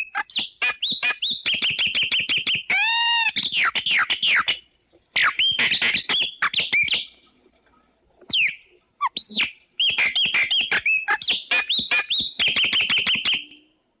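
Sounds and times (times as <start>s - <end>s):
songbird singing whistled notes: 0.0s - 4.6s, 5.2s - 7.2s, 8.3s - 13.8s.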